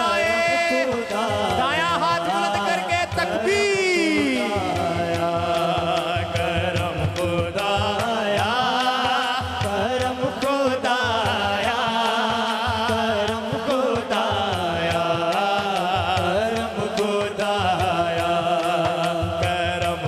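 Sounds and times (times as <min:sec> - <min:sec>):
man singing devotional song: 0:00.0 - 0:20.0
steady drum beat: 0:00.0 - 0:20.0.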